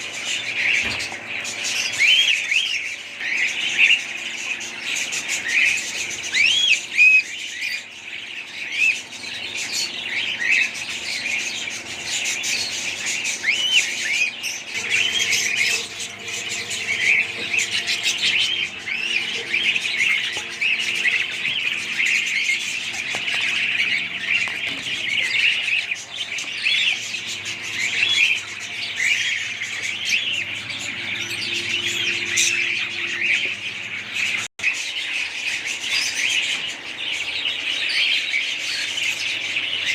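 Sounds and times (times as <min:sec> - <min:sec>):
parrots chirping and squawking: 0:00.0 - 0:39.9.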